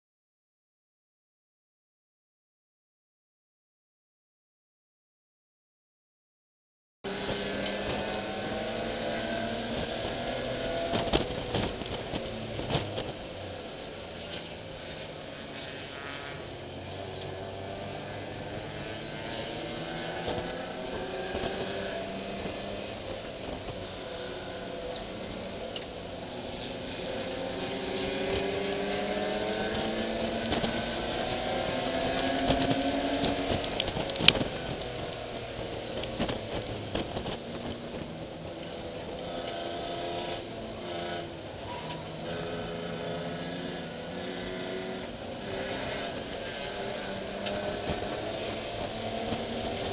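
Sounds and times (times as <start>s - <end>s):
car engine revving: 7.1s - 49.9s.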